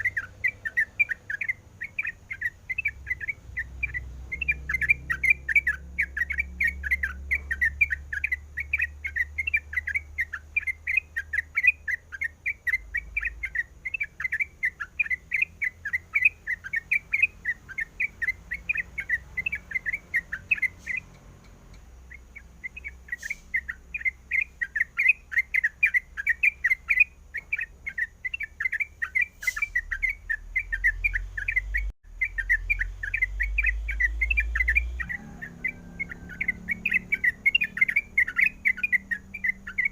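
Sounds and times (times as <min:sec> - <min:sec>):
bulbul chattering: 0:00.0 - 0:39.9.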